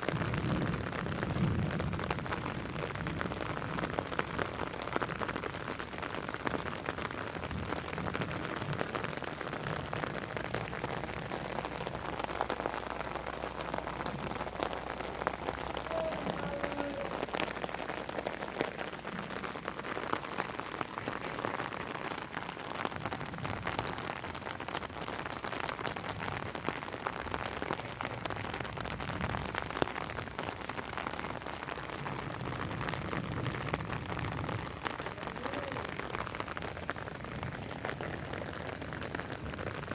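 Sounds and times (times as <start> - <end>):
rain falling: 0.0 - 39.9
raindrops ticking on surfaces: 0.0 - 39.9.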